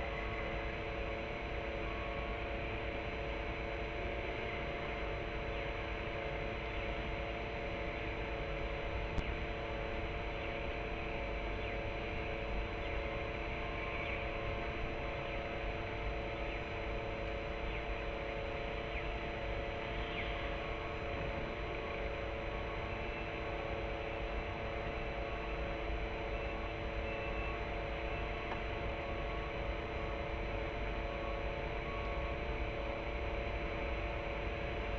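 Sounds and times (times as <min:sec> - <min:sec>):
electrical hum: 0:00.0 - 0:34.9.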